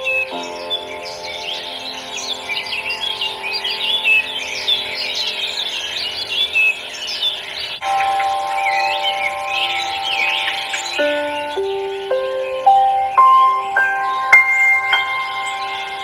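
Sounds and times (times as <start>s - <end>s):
music of sustained notes: 0.0s - 16.0s
small birds chirping: 0.0s - 16.0s.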